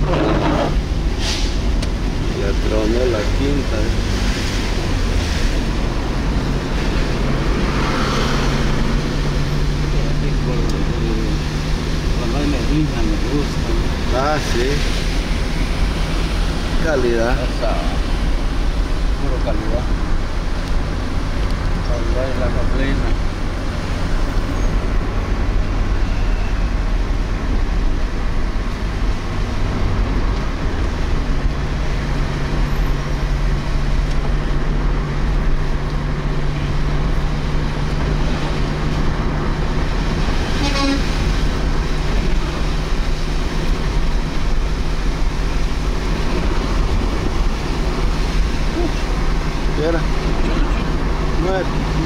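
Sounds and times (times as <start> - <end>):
car engine hum: 0.0 - 52.0
tyre noise on wet road: 0.0 - 52.0.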